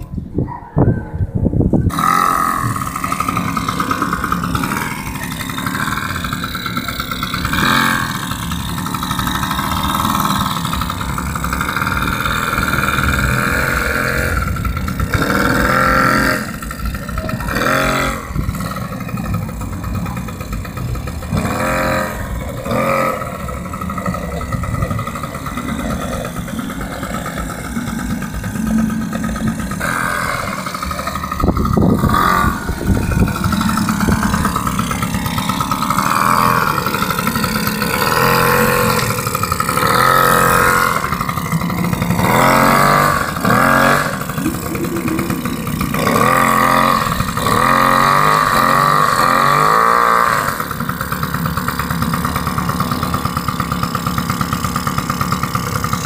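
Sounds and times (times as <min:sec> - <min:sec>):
small two-stroke engine revving: 0:01.7 - 0:56.0.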